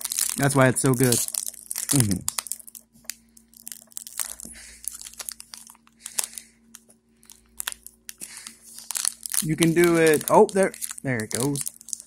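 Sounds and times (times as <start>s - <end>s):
foil pack crinkling: 0.0s - 12.0s.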